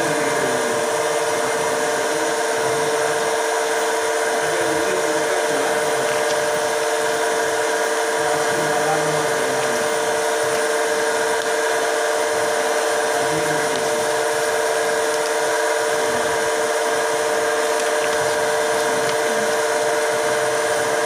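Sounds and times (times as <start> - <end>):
machine hum with whine: 0.0 - 21.0.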